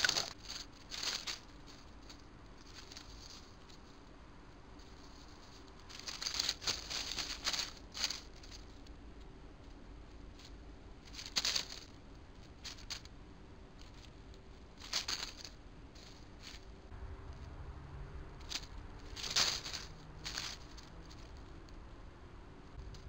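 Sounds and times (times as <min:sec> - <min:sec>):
rodents rustling in dry leaves: 0:00.0 - 0:21.9.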